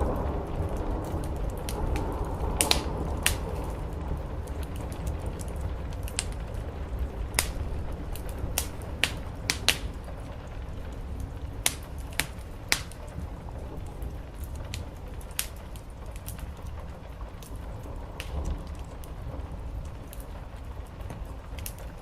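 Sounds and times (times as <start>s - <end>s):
rain on a roof: 0.0s - 22.0s
wood fire crackling: 0.0s - 22.0s.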